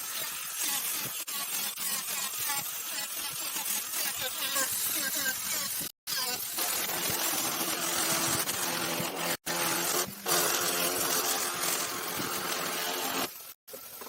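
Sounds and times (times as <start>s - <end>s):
power tool humming: 0.0s - 13.6s.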